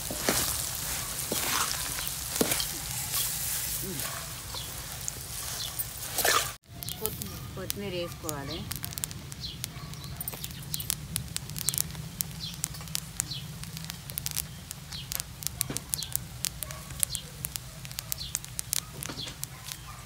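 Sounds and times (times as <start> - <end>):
birds chirping: 0.0 - 20.0
sharp crackles and clicks: 0.0 - 20.0.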